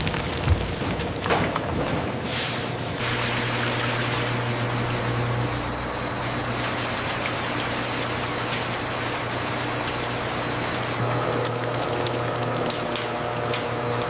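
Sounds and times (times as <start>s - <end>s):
factory machinery running: 0.1s - 14.0s.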